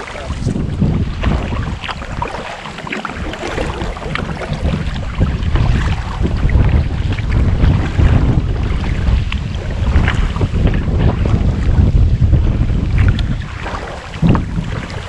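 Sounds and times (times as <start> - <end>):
kayak paddle splashing water: 0.0 - 15.0
wind buffeting microphone: 0.0 - 15.0.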